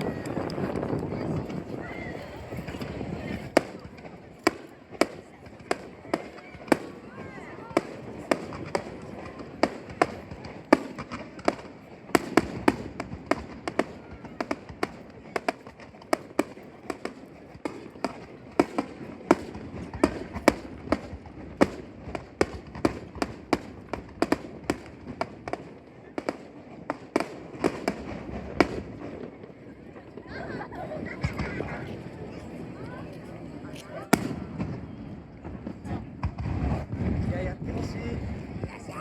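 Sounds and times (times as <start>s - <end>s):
fireworks bangs and cracks: 0.0s - 39.0s.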